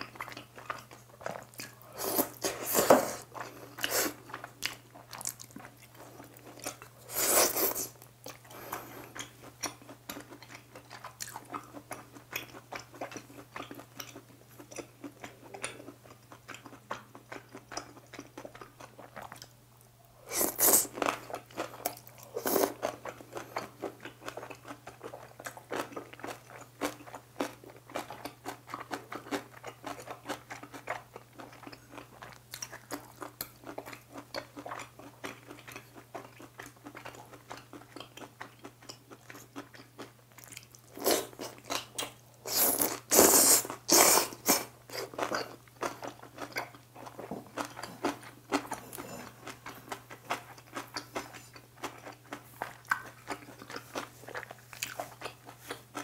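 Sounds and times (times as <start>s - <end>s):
wet chewing and crunching: 0.0s - 19.6s, 20.3s - 56.0s
faint steady hum: 0.0s - 56.0s.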